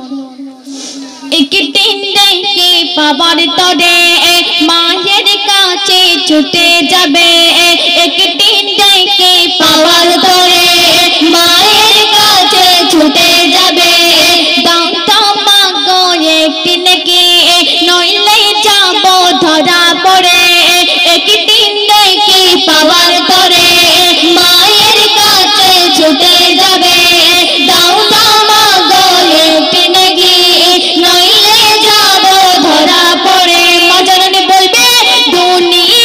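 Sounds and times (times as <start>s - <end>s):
women singing through microphones: 0.7s - 36.0s.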